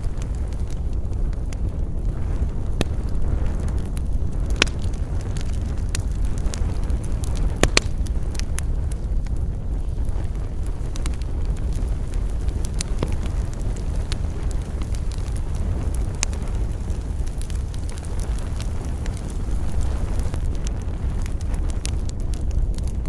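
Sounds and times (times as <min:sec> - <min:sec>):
low rumble: 0:00.0 - 0:23.0
sharp pops from fire: 0:00.0 - 0:23.0
wood fire crackling: 0:00.0 - 0:23.0.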